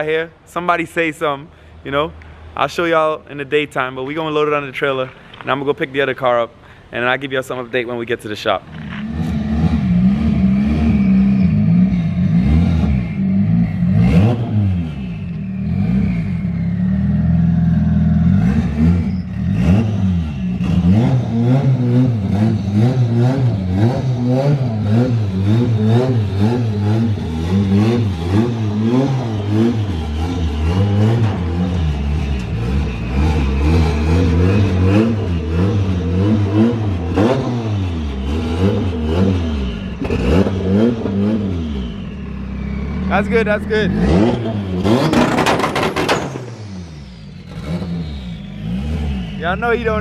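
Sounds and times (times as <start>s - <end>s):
car engine revving: 8.3s - 50.0s.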